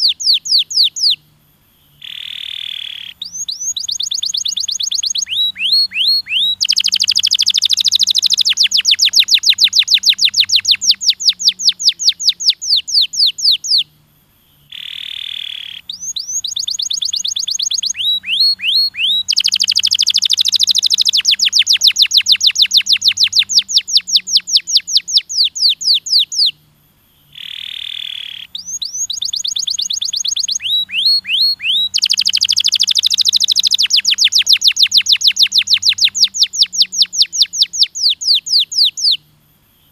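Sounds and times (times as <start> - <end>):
canary held whistle: 0.0 - 1.2, 2.0 - 13.9, 14.7 - 26.6, 27.3 - 39.2
canary singing trills: 0.0 - 39.9.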